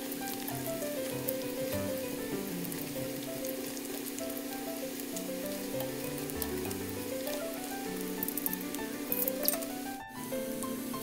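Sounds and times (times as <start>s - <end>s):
hot oil sizzling and crackling: 0.0s - 11.0s
soft background music: 0.0s - 11.0s.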